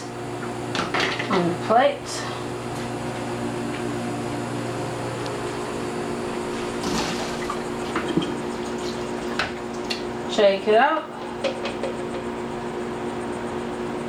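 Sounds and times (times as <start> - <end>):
microwave fan whirring: 0.0 - 14.0
microwave oven humming: 0.0 - 14.0.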